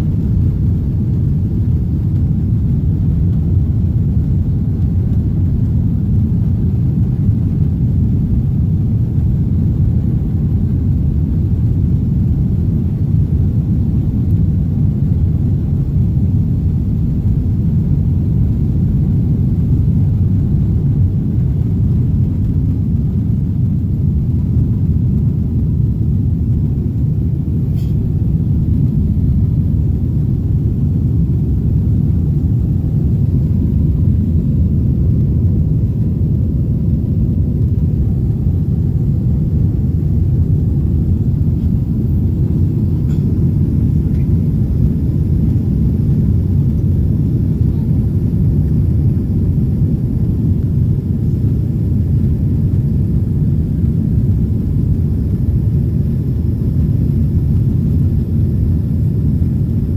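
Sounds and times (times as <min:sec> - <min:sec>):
jet engines rumbling at takeoff: 0:00.0 - 0:59.9.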